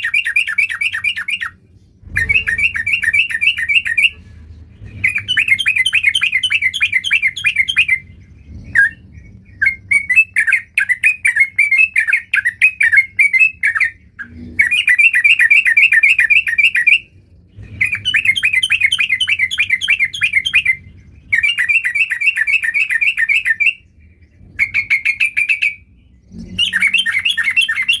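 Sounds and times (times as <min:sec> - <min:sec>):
bird singing bubbling notes: 0:00.0 - 0:04.2, 0:04.8 - 0:28.0.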